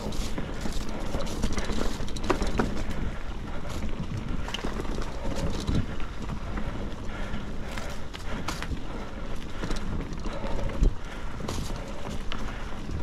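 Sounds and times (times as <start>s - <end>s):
bike rattling over bumps: 0.0s - 13.0s
bike tyre and drivetrain noise: 0.0s - 13.0s
wind on microphone: 0.0s - 13.0s.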